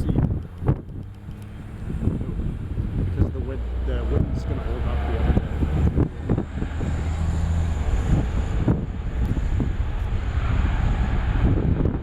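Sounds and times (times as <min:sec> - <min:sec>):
distant jet engines rumbling: 0:00.0 - 0:12.0
wind buffeting microphone: 0:00.0 - 0:12.0.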